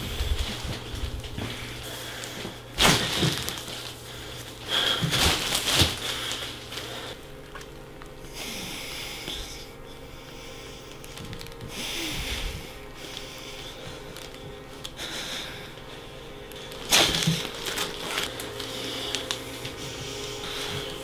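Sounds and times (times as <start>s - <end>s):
low steady hum: 0.0s - 21.0s
person breathing hard through nose: 1.4s - 7.5s, 8.2s - 21.0s.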